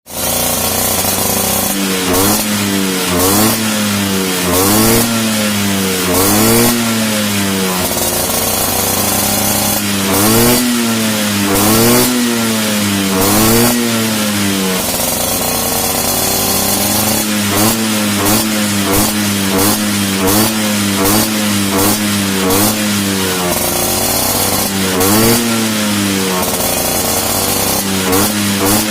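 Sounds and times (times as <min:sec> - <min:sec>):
scooter engine idling and revving: 0:00.0 - 0:28.9.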